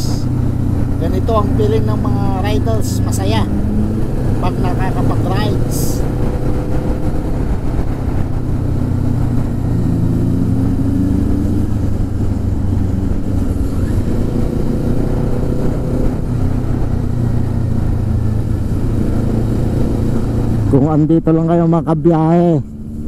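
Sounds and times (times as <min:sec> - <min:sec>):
motorcycle engine revving: 0:00.0 - 0:23.0
steady rushing noise: 0:00.0 - 0:23.0.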